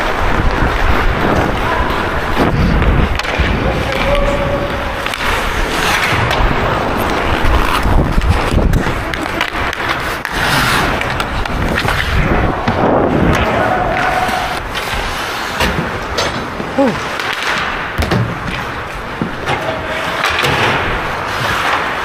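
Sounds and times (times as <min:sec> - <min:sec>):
skate blades scraping ice: 0:00.0 - 0:22.0.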